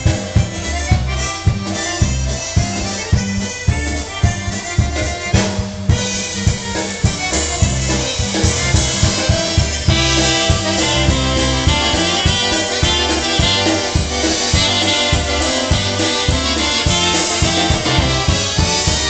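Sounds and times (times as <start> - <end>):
concertina and accordion tune: 0.0 - 19.0
drum kit beat: 0.0 - 19.0.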